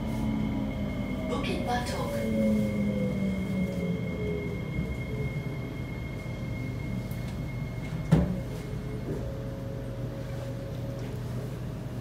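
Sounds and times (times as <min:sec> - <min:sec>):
low motor tone: 0:00.0 - 0:12.0
train wheels rumbling on rail: 0:00.0 - 0:12.0.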